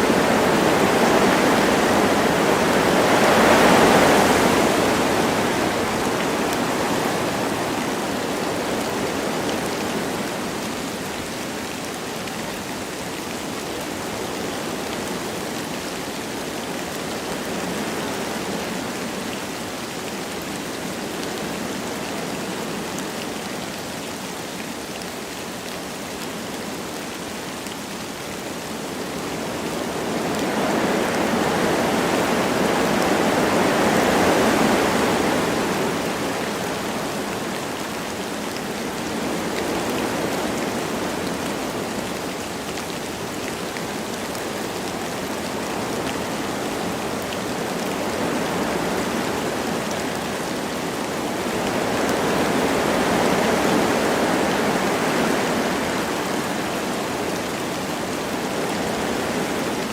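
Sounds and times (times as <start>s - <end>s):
light rain falling: 0.0s - 59.9s
wind through forest trees: 0.0s - 59.9s.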